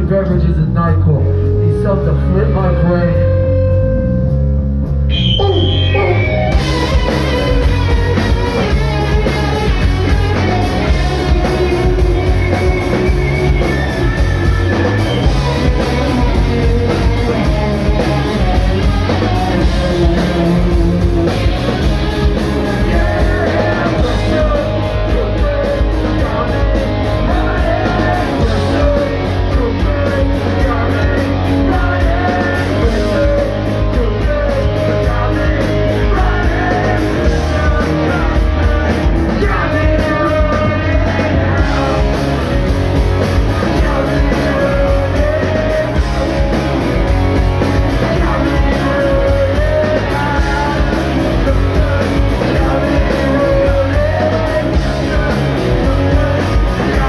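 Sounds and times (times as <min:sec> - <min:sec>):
punk rock band playing live: 0:00.0 - 0:57.0
person singing: 0:05.1 - 0:42.6, 0:43.3 - 0:46.8, 0:47.5 - 0:57.0.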